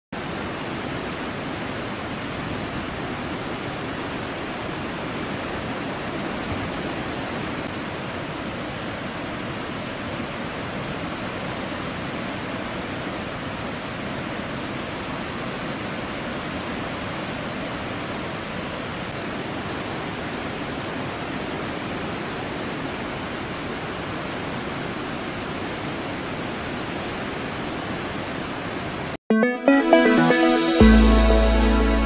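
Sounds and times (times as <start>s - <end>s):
floodwater rushing through spillway: 0.2s - 29.2s.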